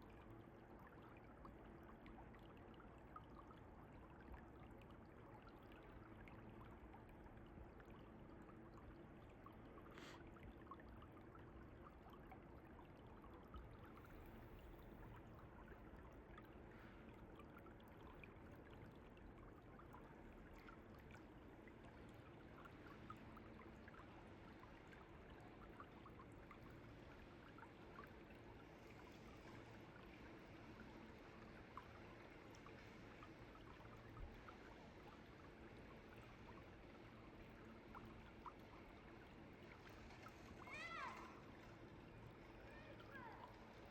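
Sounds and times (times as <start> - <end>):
stream trickling and splashing: 0.0 - 43.9.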